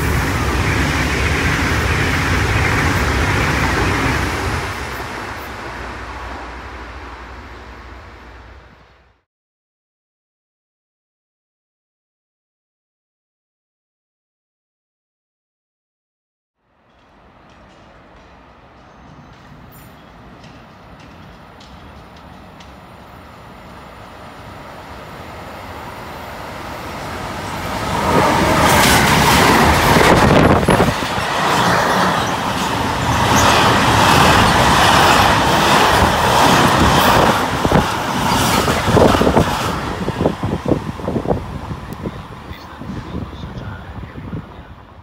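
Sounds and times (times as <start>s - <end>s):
freight train passing: 0.0s - 9.2s, 16.6s - 45.0s.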